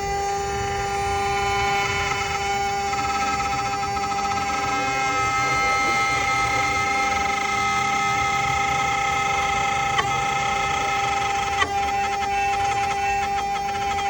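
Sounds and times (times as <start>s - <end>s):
router spindle whine: 0.0s - 14.0s
bit cutting wood: 0.4s - 14.0s.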